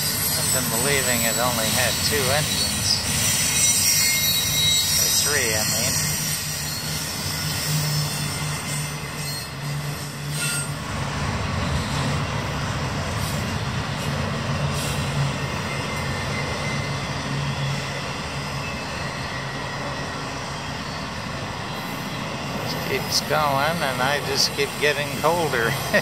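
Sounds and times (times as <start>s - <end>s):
freight train wheels rumbling on track: 0.0s - 26.0s.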